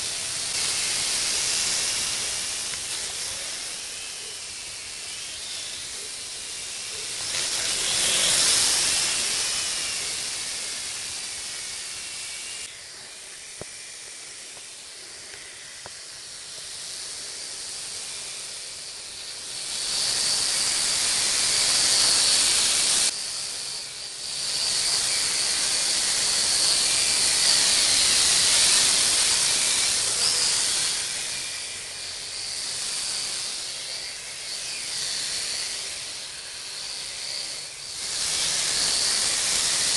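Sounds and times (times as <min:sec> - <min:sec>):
quadcopter propellers whining: 0:00.0 - 0:39.9.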